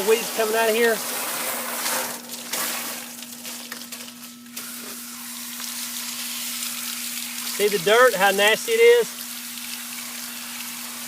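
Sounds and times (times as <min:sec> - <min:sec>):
hose water spraying on metal fins: 0:00.0 - 0:03.8, 0:04.5 - 0:11.0
faint steady hum: 0:00.0 - 0:11.0.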